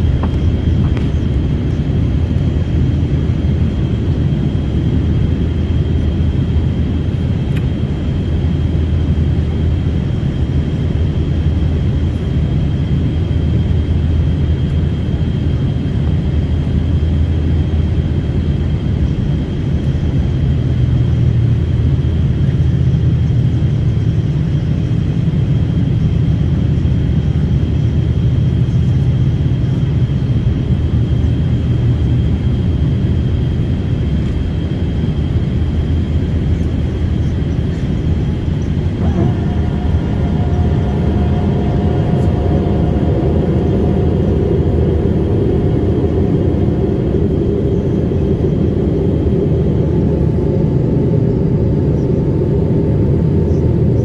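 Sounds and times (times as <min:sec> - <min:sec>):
airliner engine drone in cabin: 0:00.0 - 0:54.0.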